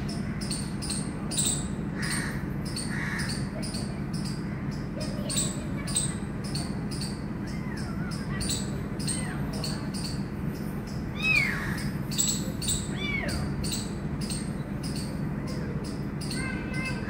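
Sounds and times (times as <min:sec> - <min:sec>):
high chirping: 0:00.0 - 0:17.0.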